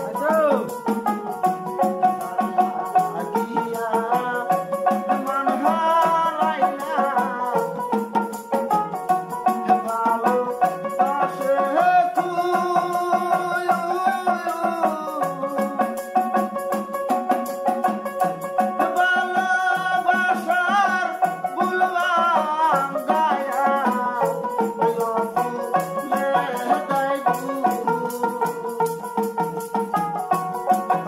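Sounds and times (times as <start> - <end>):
man singing: 0.0 - 0.9, 1.6 - 8.1, 9.3 - 16.4, 18.5 - 28.8, 30.3 - 31.0
jingling hand drum: 0.0 - 31.0
plucked lute: 0.0 - 31.0
shaken percussion: 0.0 - 31.0.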